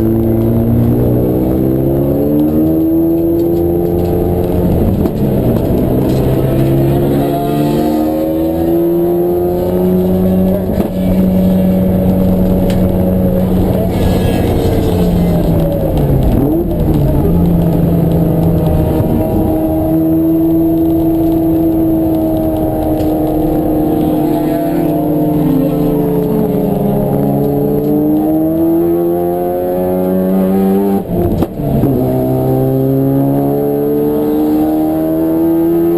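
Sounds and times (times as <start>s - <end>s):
race car engine at high revs: 0.0s - 35.9s.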